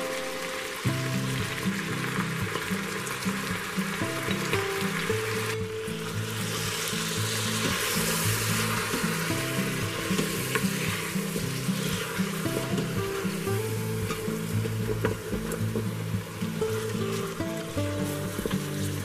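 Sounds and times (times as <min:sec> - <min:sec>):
food sizzling in pot: 0:00.0 - 0:19.0.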